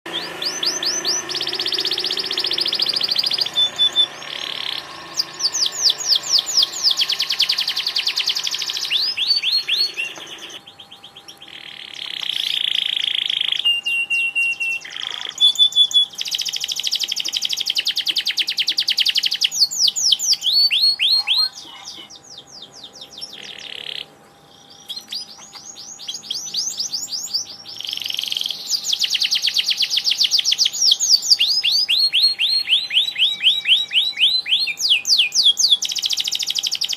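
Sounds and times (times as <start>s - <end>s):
canary singing trills: 0.1s - 36.9s.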